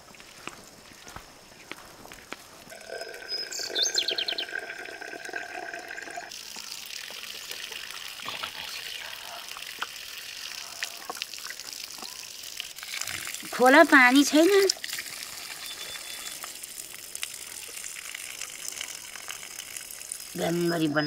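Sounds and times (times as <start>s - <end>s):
water dripping: 0.0s - 21.0s
water trickling and splashing: 0.0s - 21.0s.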